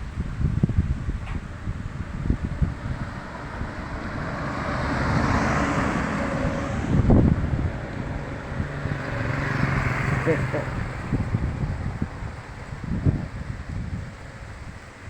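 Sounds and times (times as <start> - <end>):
gusty wind on microphone: 0.0 - 15.0
vehicle passing: 1.4 - 14.7.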